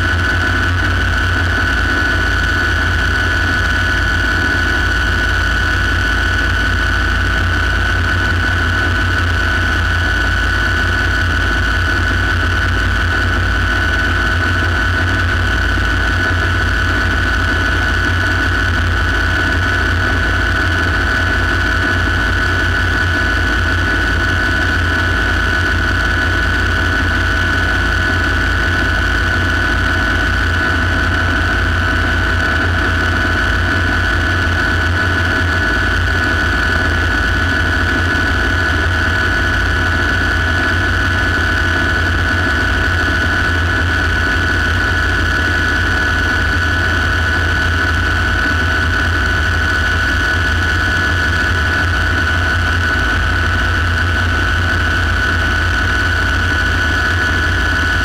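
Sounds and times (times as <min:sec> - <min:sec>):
engine and rotor drone: 0:00.0 - 0:58.0
helicopter turbine whine: 0:00.0 - 0:58.0.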